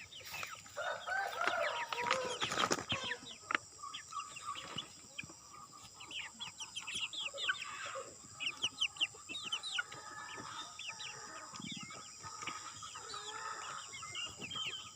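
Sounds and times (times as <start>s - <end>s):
chicks peeping: 0.0s - 14.9s.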